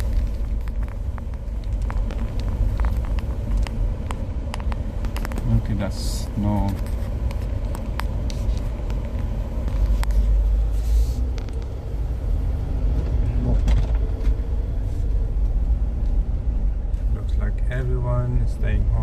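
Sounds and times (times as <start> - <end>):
engine and tyre drone: 0.0 - 19.0.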